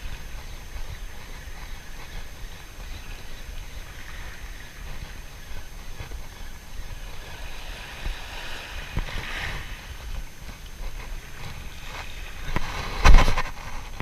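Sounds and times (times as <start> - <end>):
sea water lapping: 0.0 - 14.0
wind buffeting microphone: 0.0 - 14.0.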